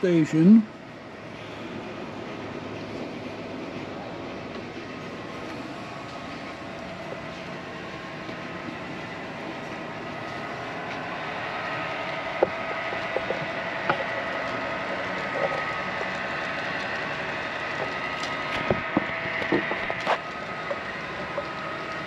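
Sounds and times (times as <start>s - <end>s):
model train motors whining: 0.0s - 22.0s
wheels on model track: 0.0s - 22.0s.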